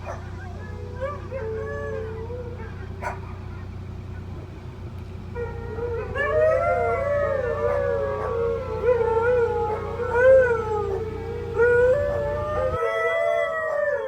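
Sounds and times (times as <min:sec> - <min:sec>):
steady low hum: 0:00.0 - 0:12.8
huskies howling: 0:00.0 - 0:14.0.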